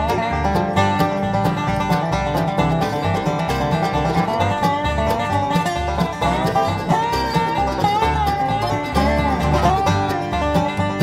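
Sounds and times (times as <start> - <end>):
bluegrass instrumental music: 0.0 - 11.0.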